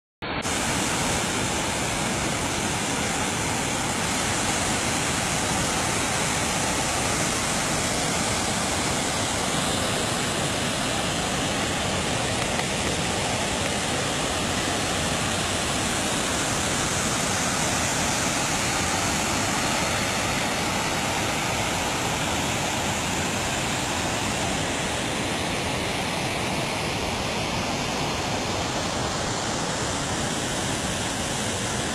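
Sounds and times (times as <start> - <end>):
water rushing through sluice gate: 0.3 - 31.9.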